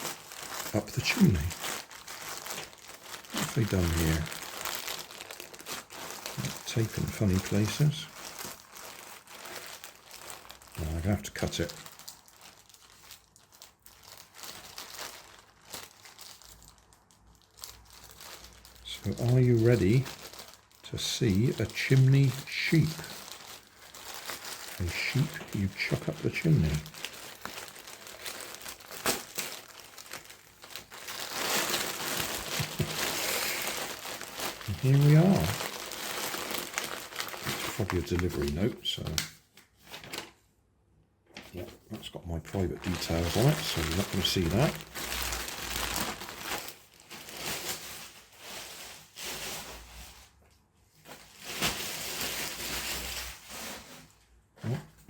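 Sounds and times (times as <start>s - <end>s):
packaging crinkling and rustling: 0.0s - 40.5s, 41.3s - 55.0s.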